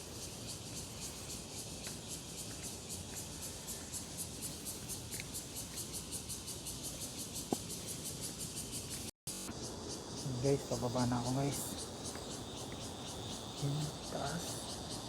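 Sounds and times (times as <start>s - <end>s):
insects pulsing high-pitched: 0.0s - 15.0s.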